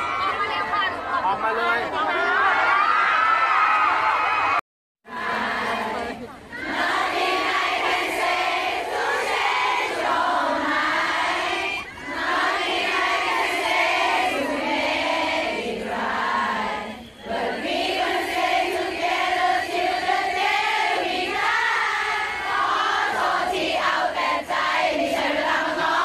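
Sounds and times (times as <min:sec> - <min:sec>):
crowd singing in unison: 0:05.1 - 0:26.0.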